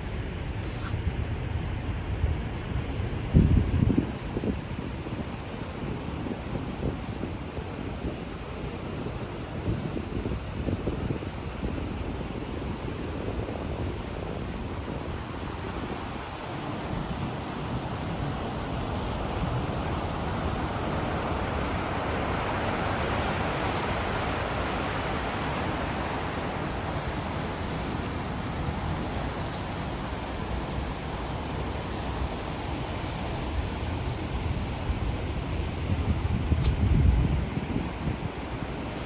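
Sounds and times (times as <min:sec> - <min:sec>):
rush of wind and water: 0:00.0 - 0:39.0.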